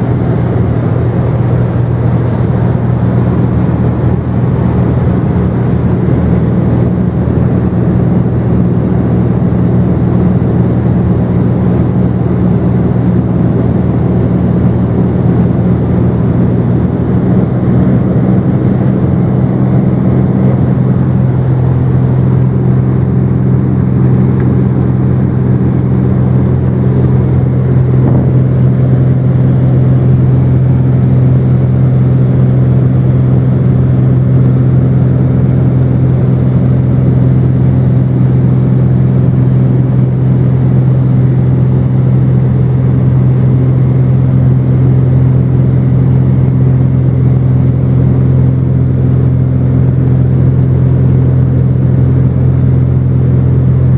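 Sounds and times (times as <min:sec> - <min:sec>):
propeller plane engine in cabin: 0:00.0 - 0:53.9.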